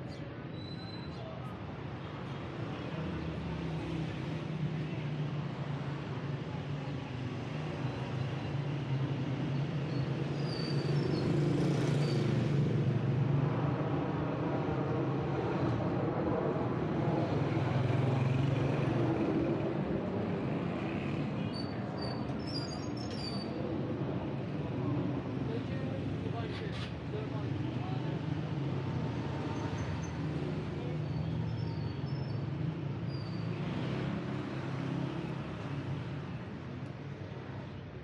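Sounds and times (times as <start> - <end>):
vehicle engines humming: 1.5 - 38.0.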